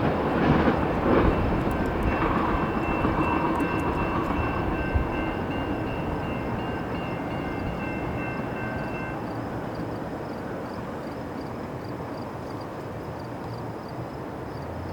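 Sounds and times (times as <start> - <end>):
freight train rumbling on rails: 0.0 - 14.9.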